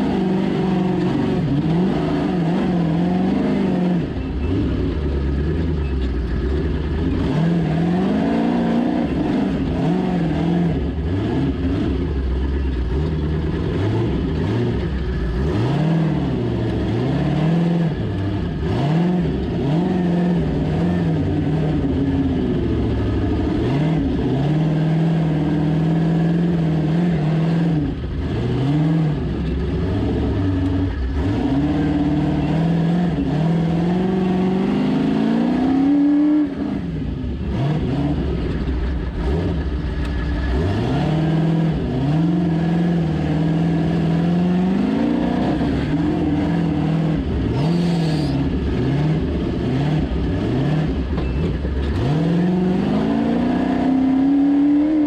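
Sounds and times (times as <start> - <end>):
buggy engine revving: 0.0 - 55.0.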